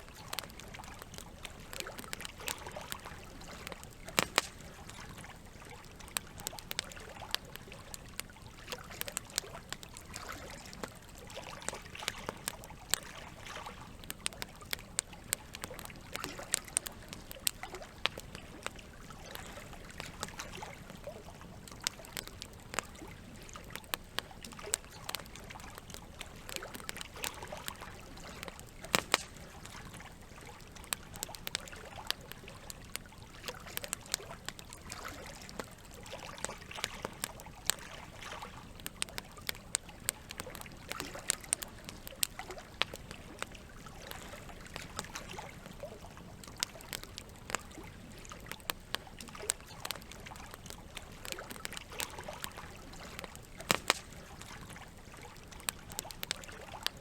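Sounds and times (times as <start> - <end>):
campfire crackling and popping: 0.0 - 57.0
trickling water: 0.0 - 57.0.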